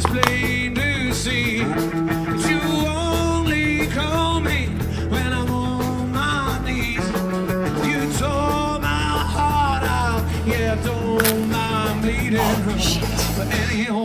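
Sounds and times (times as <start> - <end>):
rock band music: 0.0 - 13.8
steady bass: 0.0 - 13.8
man singing: 0.0 - 14.0.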